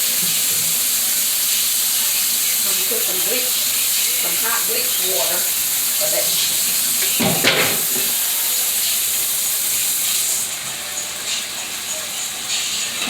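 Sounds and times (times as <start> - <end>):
chicken sizzling in a skillet: 0.0 - 13.0.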